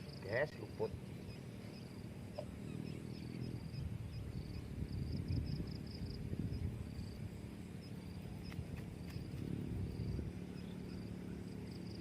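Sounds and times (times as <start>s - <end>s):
insects chirping in trills: 0.0s - 12.0s
low rumbling background noise: 0.0s - 12.0s.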